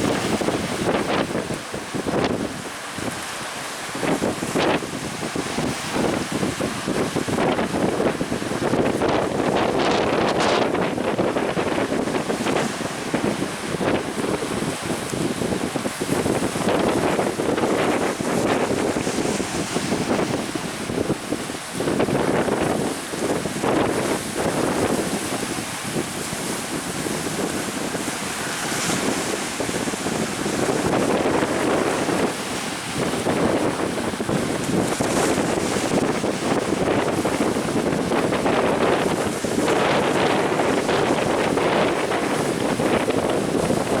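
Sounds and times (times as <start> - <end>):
waves and spray against boat: 0.0 - 44.0
wind buffeting microphone: 0.0 - 44.0.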